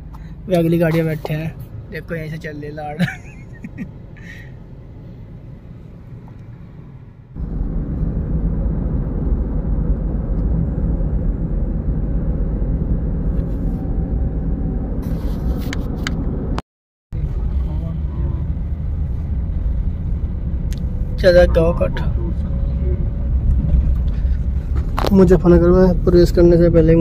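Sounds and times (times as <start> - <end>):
engine and tyre rumble: 0.0 - 27.0.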